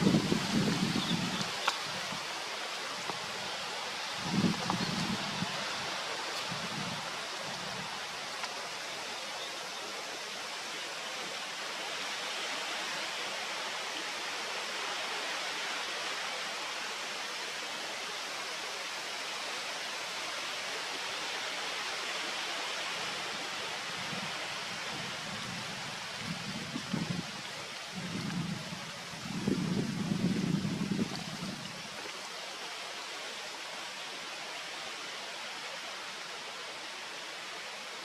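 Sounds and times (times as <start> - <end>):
water rushing: 0.0 - 38.0.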